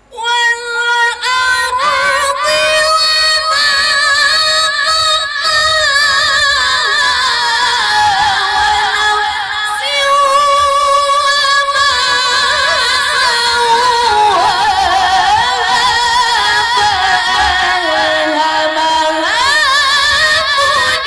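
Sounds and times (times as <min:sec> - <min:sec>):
woman reciting melodically: 0:00.0 - 0:21.0.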